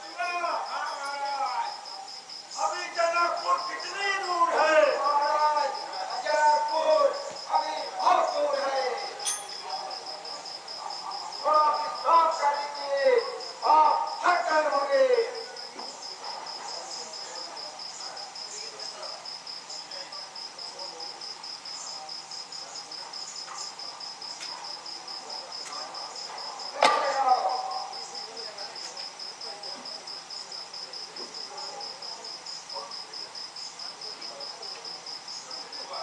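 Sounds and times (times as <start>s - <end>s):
crickets trilling: 0.0s - 36.0s.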